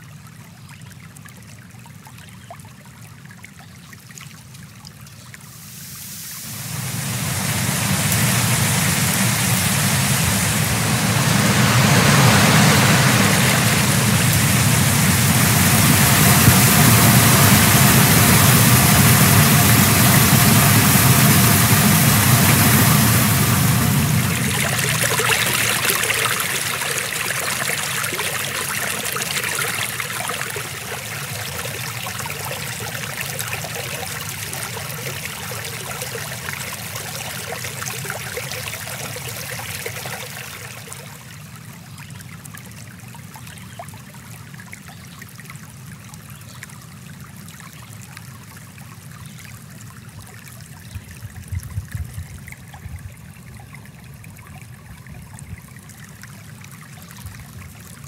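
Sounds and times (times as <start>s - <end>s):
stream water over rocks: 0.0s - 58.0s.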